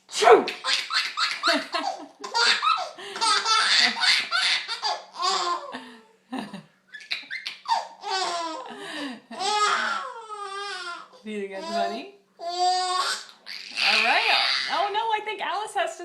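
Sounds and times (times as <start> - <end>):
baby laughing: 0.4 - 5.8, 6.9 - 14.9.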